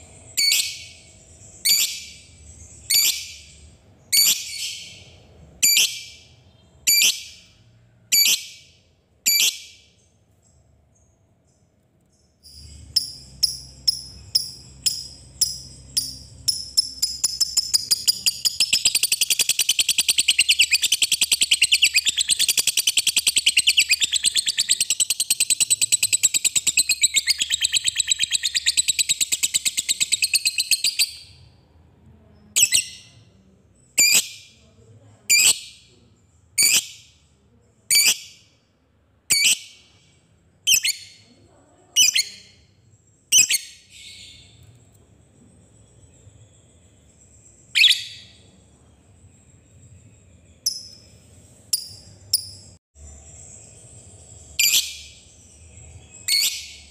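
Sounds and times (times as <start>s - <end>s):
lovebird chirping and chattering: 0.0s - 11.6s, 12.2s - 31.4s, 32.4s - 34.6s, 35.3s - 38.5s, 39.3s - 40.0s, 40.6s - 56.9s.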